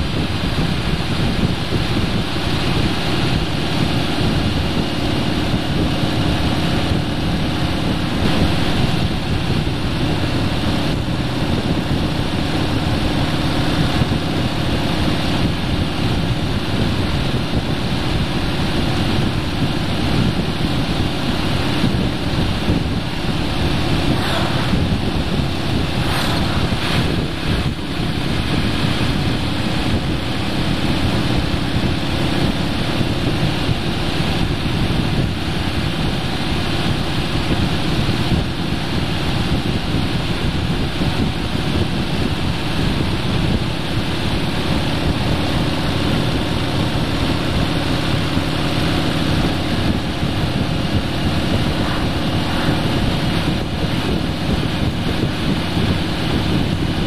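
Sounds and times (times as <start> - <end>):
low engine hum: 0.0 - 57.0
truck passing: 0.0 - 57.0
tyre and road noise: 0.0 - 57.0
wind rushing over microphone: 0.0 - 57.0.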